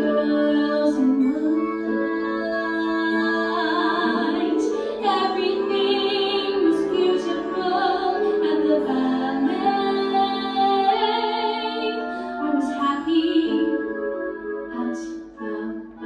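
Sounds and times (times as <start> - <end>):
women singing into microphones: 0.0 - 14.0, 14.7 - 16.0.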